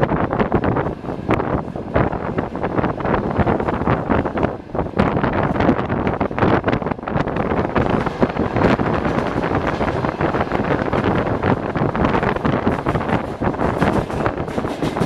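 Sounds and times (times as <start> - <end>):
train rumbling and rattling: 0.0 - 15.0
wheels knocking on track: 0.0 - 15.0
wind buffeting microphone: 0.0 - 15.0.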